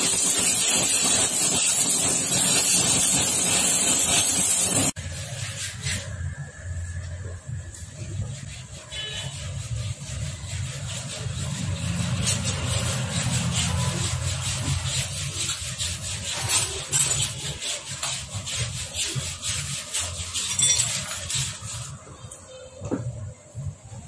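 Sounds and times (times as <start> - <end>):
hand tools scraping on metal: 0.0 - 6.5, 8.1 - 22.6.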